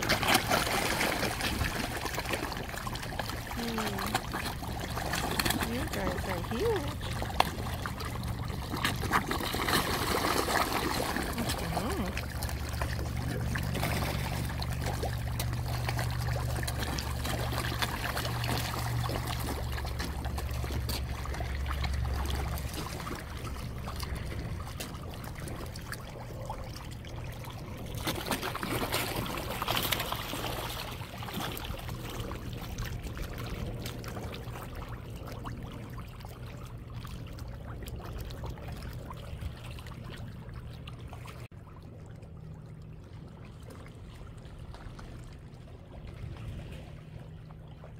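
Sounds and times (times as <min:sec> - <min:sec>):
fish splashing and slurping: 0:00.0 - 0:47.9
low steady hum: 0:00.0 - 0:47.9.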